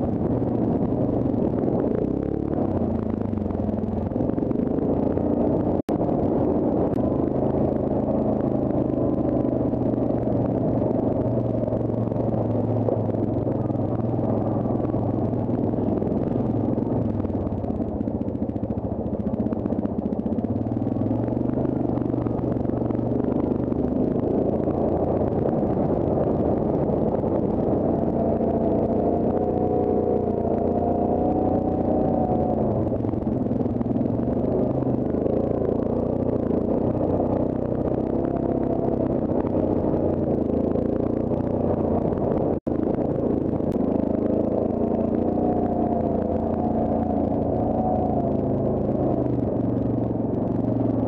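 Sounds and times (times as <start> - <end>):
atv engine running: 0.0 - 51.0.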